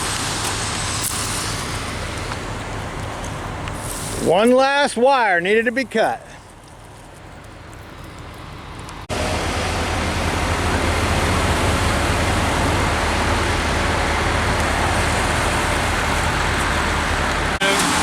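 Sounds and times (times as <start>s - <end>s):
heavy machinery engine rumbling: 0.0s - 18.0s.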